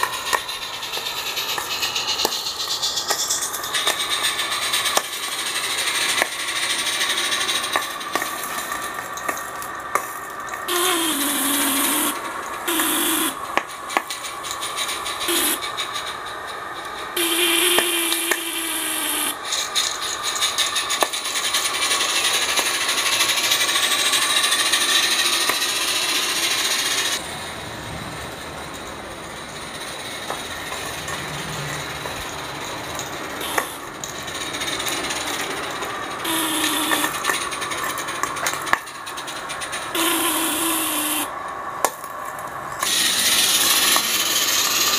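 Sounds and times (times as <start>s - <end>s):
steam hiss: 0.0s - 44.9s
steam locomotive exhaust chuffs: 0.0s - 44.9s
wheels clicking on rail: 0.0s - 44.9s.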